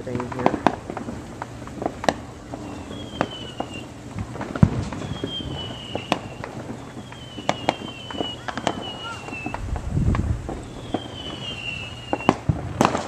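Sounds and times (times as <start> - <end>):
distant fireworks popping and banging: 0.0 - 13.0
high firework whistles: 0.4 - 13.0.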